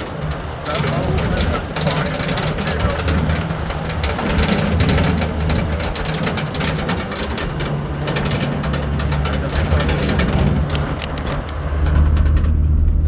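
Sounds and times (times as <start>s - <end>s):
clicks and rattles: 0.0s - 13.0s
vehicle engine humming: 0.0s - 13.0s.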